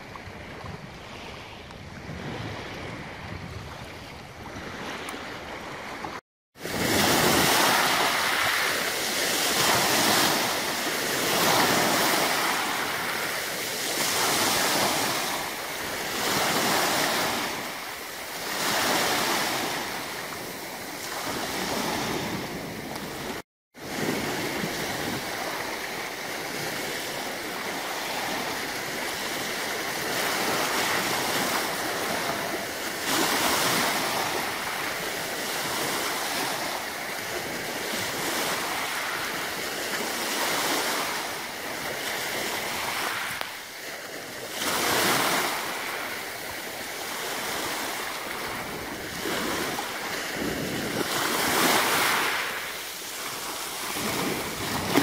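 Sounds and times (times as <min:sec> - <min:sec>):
waves washing over pebbles: 0:06.0 - 0:26.5, 0:27.2 - 0:55.0.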